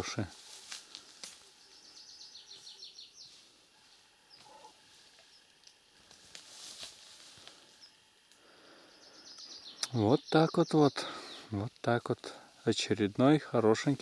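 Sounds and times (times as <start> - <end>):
songbird singing faintly: 0.0 - 14.0.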